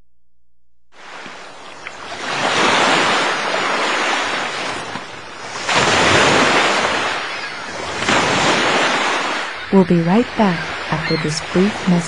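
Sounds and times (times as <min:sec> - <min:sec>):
ocean waves breaking: 0:00.9 - 0:12.0.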